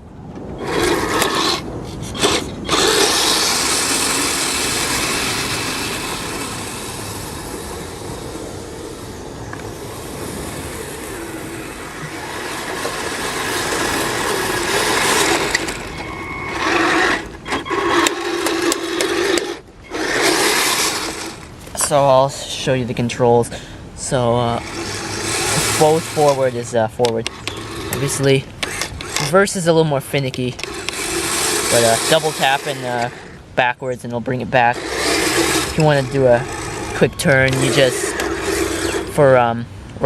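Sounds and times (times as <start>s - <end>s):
electric motors whirring: 0.0s - 22.0s, 24.0s - 39.5s.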